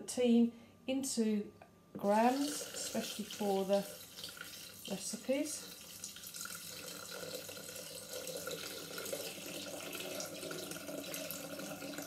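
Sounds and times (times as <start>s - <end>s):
water pouring from a jug: 2.2s - 12.0s.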